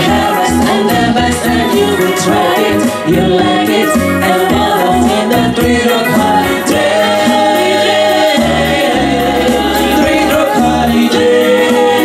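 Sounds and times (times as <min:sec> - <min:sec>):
bass line and drum beat: 0:00.0 - 0:12.0
women singing disco pop: 0:00.0 - 0:12.0.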